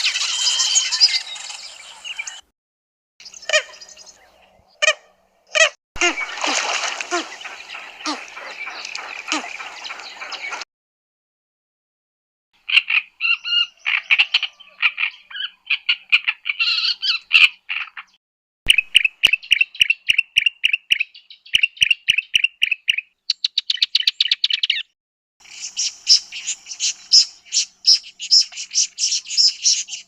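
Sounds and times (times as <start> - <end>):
bird trill: 0.0 - 2.4, 3.2 - 10.6, 12.6 - 30.0
bird chirping: 0.0 - 2.5, 3.2 - 10.6, 12.7 - 30.0.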